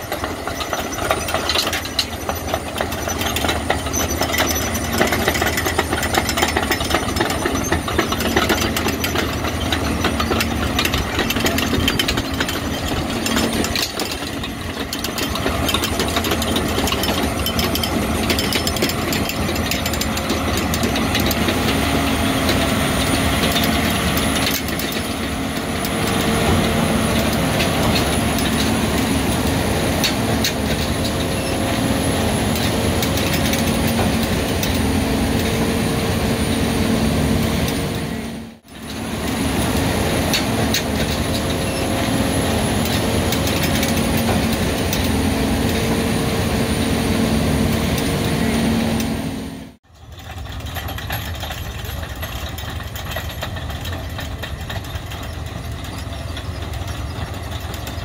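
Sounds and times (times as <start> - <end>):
conveyor chains rattling: 0.0 - 58.0
harvester engine drone: 0.0 - 58.0.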